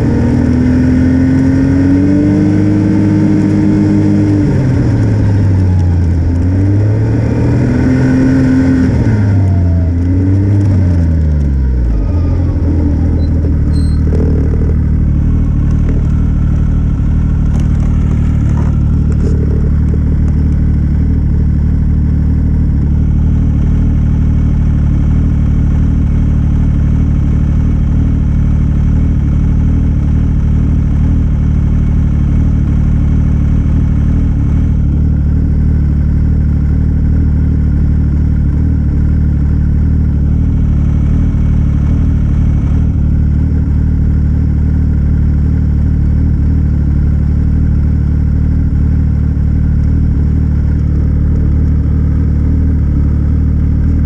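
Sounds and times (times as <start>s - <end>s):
snowmobile engine: 0.0s - 54.0s.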